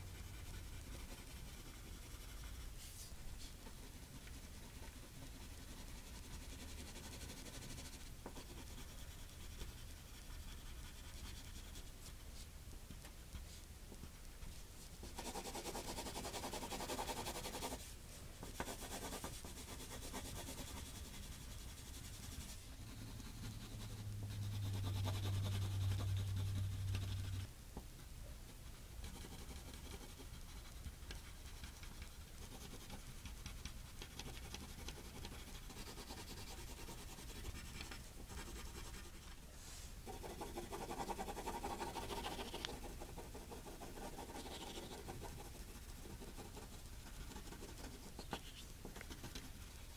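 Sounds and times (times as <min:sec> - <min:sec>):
low steady hum: 0:00.0 - 0:49.9
pencil scratching on paper: 0:00.1 - 0:11.9, 0:15.0 - 0:27.5, 0:29.0 - 0:39.3, 0:40.0 - 0:49.7.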